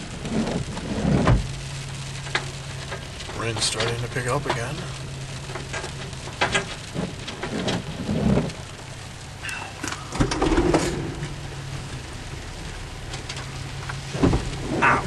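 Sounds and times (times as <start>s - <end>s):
rain spattering on a vehicle: 0.0s - 15.0s
wind gusts rumbling: 0.0s - 15.0s.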